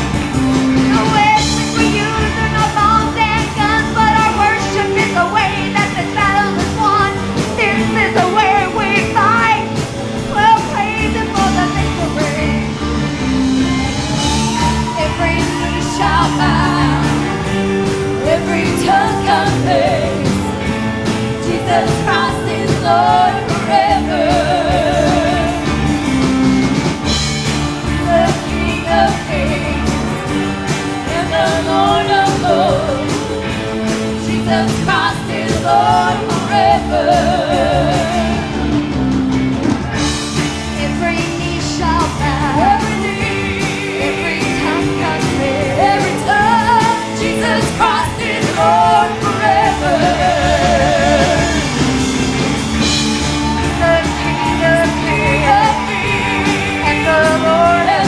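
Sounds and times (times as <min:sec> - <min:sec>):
person singing: 0:00.0 - 0:39.0, 0:40.4 - 0:58.0
band playing gospel music: 0:00.0 - 0:58.0.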